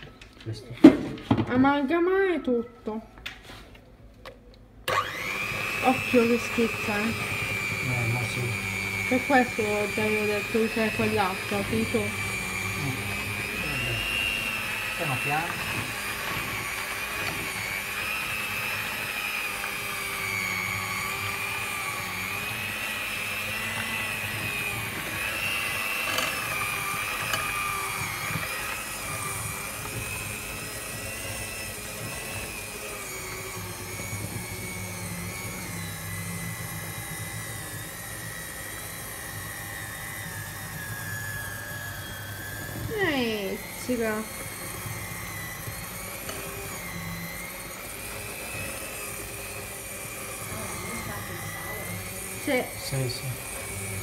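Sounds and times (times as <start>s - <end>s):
electric hand mixer whining: 4.8s - 54.0s.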